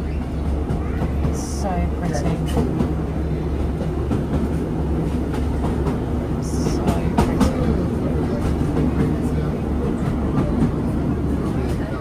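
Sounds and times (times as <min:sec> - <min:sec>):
train engine drone: 0:00.0 - 0:12.0
wheels rumbling on rails: 0:00.0 - 0:12.0.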